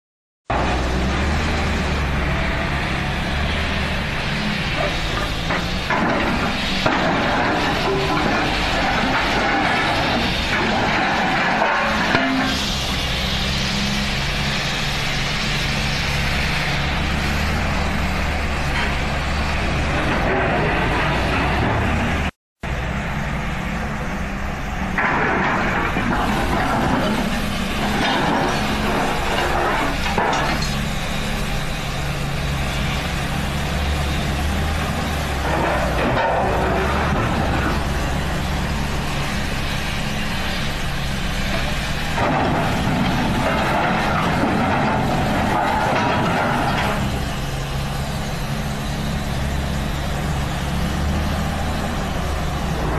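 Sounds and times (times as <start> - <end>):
diesel engine running: 0.4 - 52.9.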